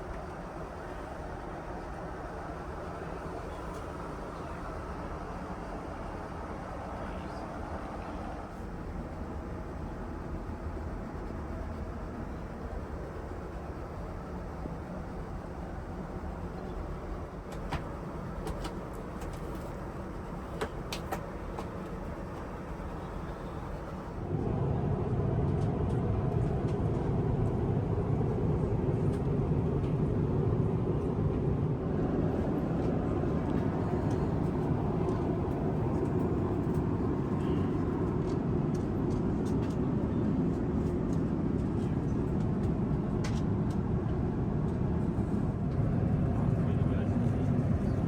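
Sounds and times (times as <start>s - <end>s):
aircraft cabin engine rush: 0.0s - 48.0s.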